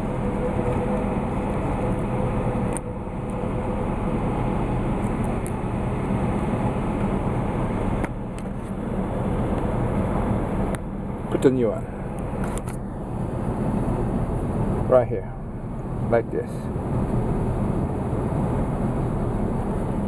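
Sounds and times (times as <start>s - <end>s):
faint steady tone: 0.0s - 16.4s
low mechanical hum: 0.0s - 20.0s.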